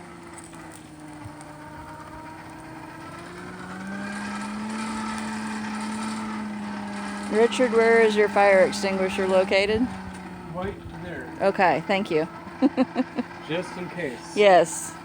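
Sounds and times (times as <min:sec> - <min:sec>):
blower motor humming: 0:00.0 - 0:15.0.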